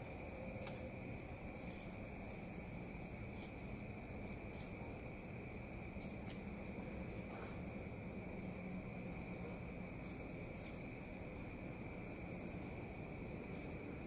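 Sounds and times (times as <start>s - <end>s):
night insects chorus: 0.0s - 14.0s.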